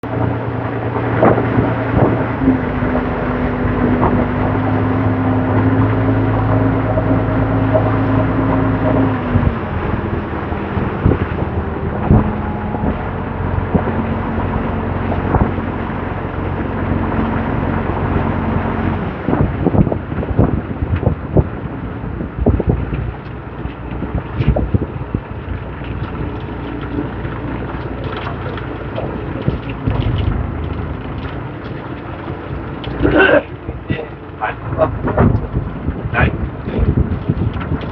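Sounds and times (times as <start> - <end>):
boat engine running: 0.0 - 37.9
steady low rumble: 0.0 - 37.9
wind buffeting microphone: 0.0 - 37.9.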